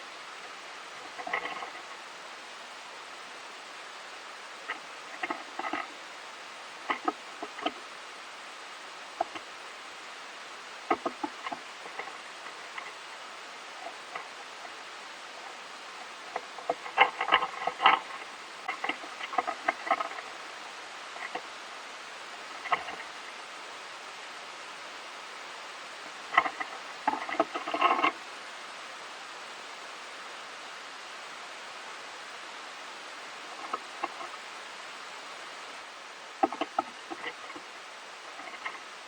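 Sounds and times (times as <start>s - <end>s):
steady hiss: 0.0s - 39.0s
squirrel gnawing food: 0.2s - 28.3s, 32.3s - 39.0s.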